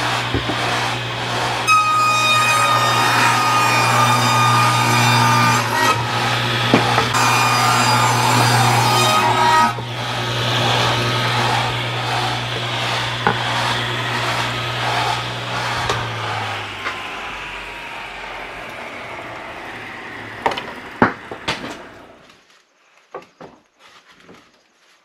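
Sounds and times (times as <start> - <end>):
table saw winding down: 0.0 - 22.3.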